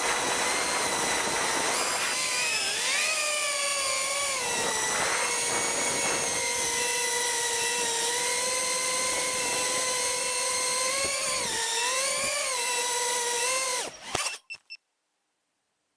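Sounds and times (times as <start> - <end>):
drone propellers whining: 0.0 - 14.4.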